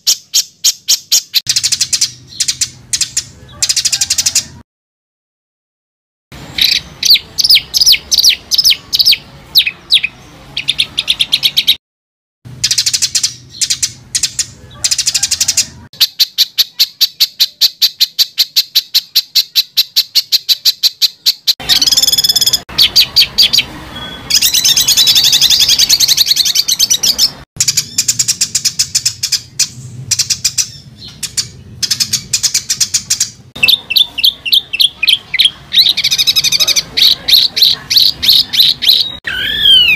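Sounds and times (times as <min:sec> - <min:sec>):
bird chattering: 0:00.0 - 0:04.6, 0:06.5 - 0:11.8, 0:12.6 - 0:39.9
songbird chirping: 0:00.0 - 0:04.6, 0:06.4 - 0:11.8, 0:12.5 - 0:39.9.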